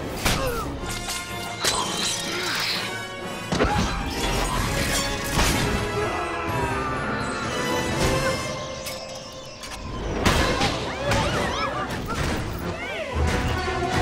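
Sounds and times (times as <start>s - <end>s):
orchestral action music: 0.0s - 14.0s.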